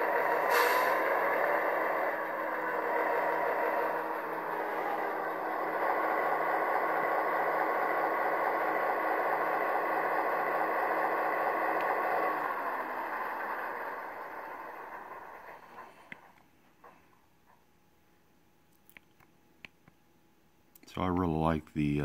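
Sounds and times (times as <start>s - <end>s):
model locomotive diesel engine sound: 0.0s - 18.5s, 20.3s - 22.0s.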